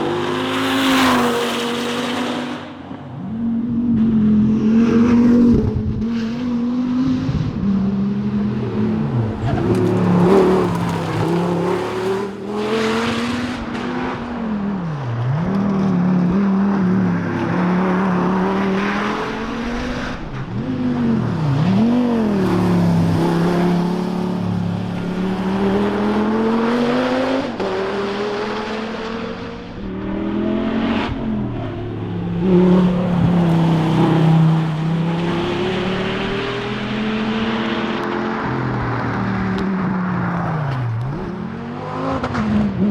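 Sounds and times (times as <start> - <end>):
racing car engine: 0.0 - 42.9.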